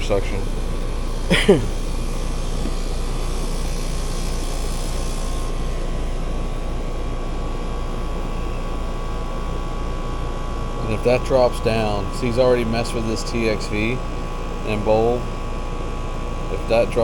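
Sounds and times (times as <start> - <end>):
heat pump hum: 0.0 - 17.0.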